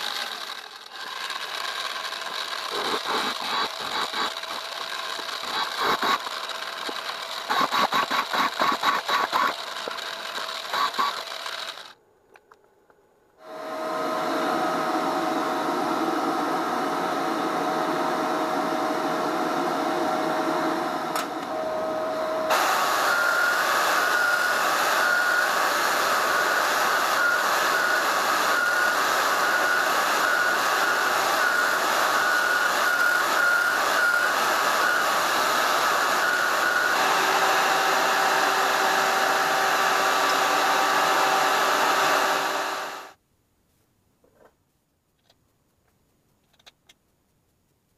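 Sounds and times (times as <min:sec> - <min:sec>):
band saw cutting metal: 0:00.0 - 0:12.0, 0:16.6 - 0:43.2.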